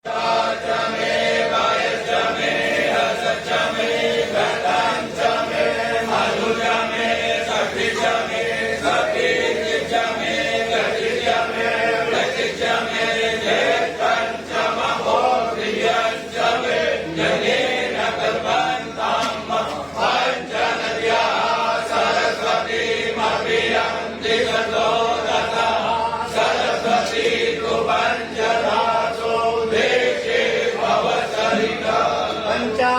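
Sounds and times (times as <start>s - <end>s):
group of voices chanting: 0.1s - 32.9s.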